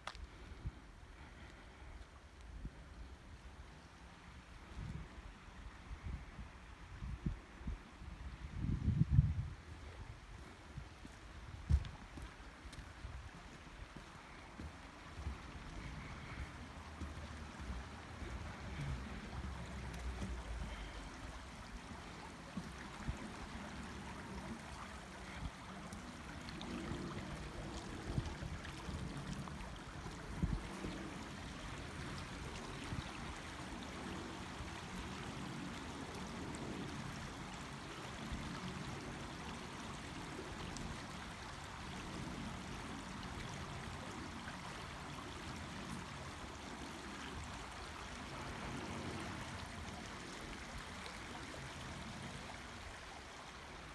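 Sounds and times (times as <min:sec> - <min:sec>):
creek babbling over stones: 0:00.0 - 0:53.9.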